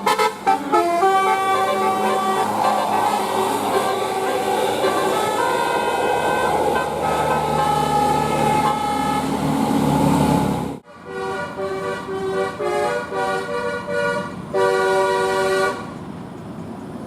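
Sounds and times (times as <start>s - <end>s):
multi-tone bus horn melody: 0.0s - 16.0s
bus engine running: 0.0s - 17.0s.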